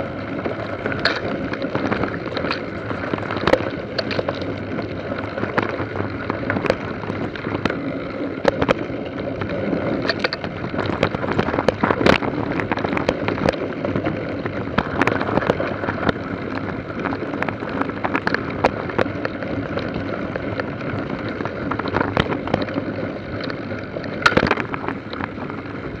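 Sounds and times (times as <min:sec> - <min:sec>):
bike riding rumble: 0:00.0 - 0:26.0
wind on microphone: 0:00.0 - 0:26.0.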